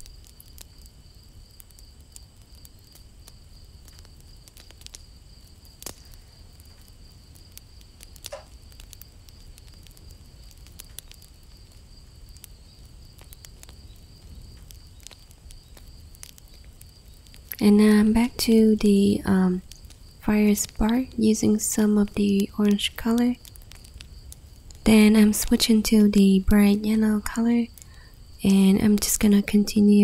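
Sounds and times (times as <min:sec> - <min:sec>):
faint high-pitched whine: 0:05.7 - 0:30.0.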